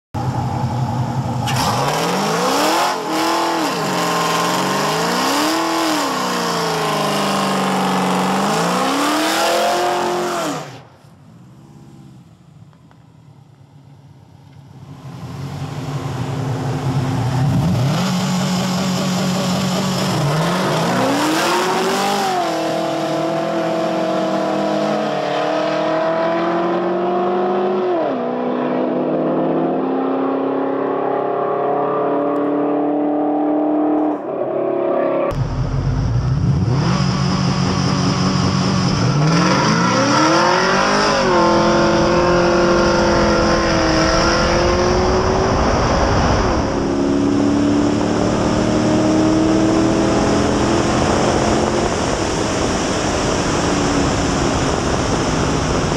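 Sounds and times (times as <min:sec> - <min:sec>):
car engines accelerating hard: 0:00.2 - 0:12.4, 0:14.8 - 0:34.6, 0:35.3 - 0:55.9.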